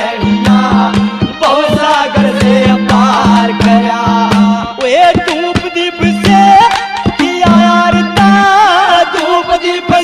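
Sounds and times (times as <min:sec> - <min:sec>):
hand drum striking: 0:00.2 - 0:08.5.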